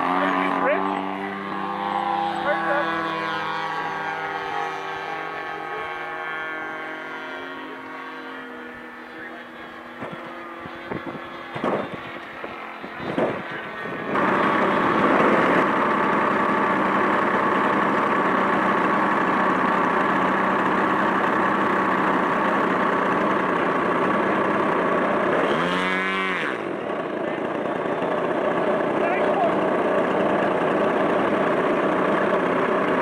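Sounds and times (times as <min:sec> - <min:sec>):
model airplane engine drone: 0:00.0 - 0:33.0.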